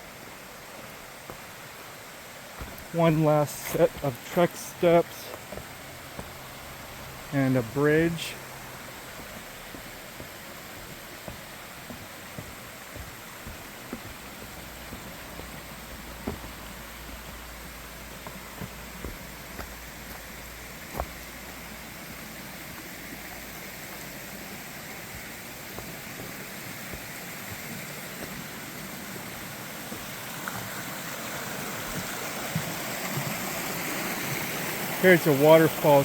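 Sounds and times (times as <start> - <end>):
rushing stream and waterfall: 0.0 - 36.0.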